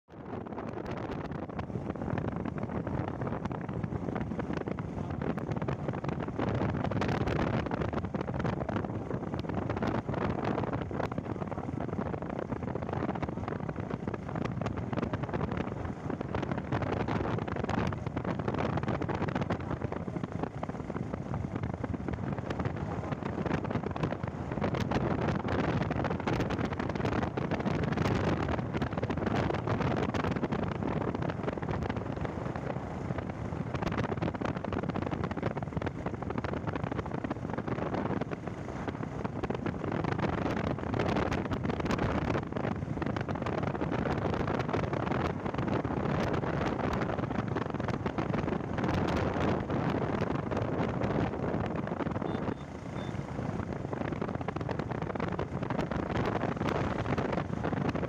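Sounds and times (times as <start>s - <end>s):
vehicle road rumble: 0.0s - 58.0s
wind buffeting microphone: 0.1s - 58.0s.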